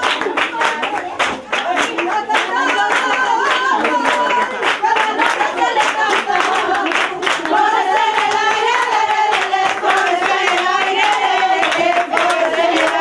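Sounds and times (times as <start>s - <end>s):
flamenco-style singing: 0.0s - 13.0s
hand-clapping: 0.0s - 13.0s.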